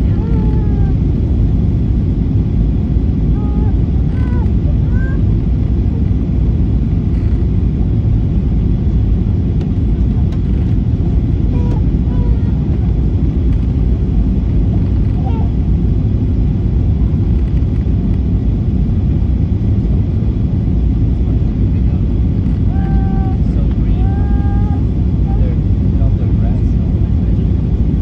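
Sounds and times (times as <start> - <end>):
aircraft cabin engine noise: 0.0 - 28.0.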